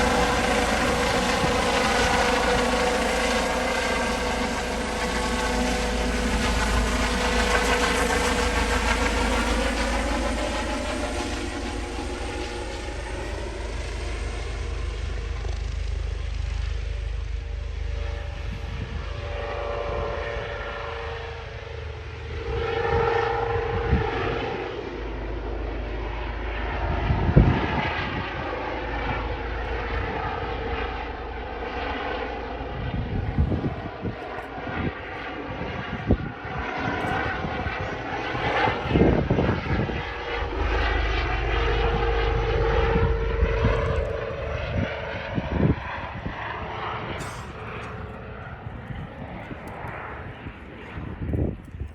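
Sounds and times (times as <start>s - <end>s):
wind buffeting microphone: 0.0s - 13.9s, 18.1s - 24.9s, 26.4s - 31.1s, 32.6s - 51.9s
helicopter turbine whine and rotor: 0.0s - 51.9s.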